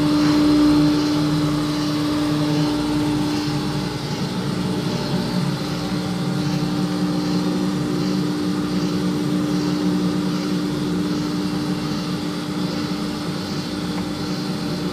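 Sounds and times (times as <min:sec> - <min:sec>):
dishwasher motor hum: 0:00.0 - 0:14.9.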